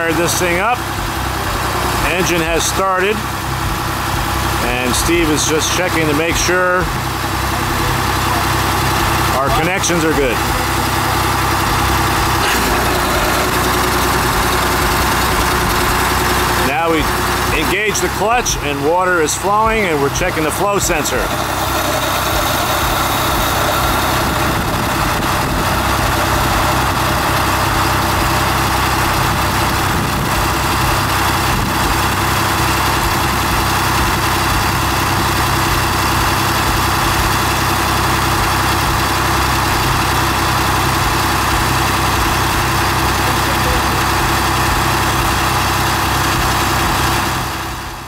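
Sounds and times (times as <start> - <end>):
diesel engine running: 0.0 - 48.0
water pump with flowing water: 0.0 - 48.0.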